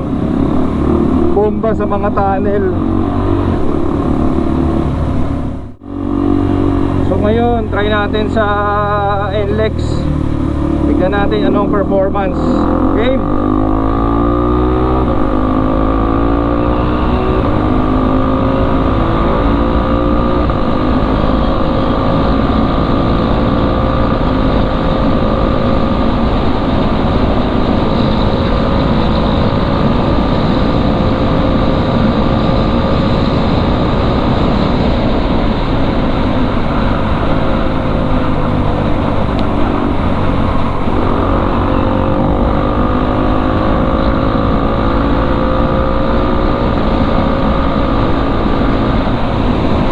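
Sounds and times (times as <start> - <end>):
motorcycle engine accelerating: 0.0 - 49.9
steady rush of noise: 0.0 - 49.9.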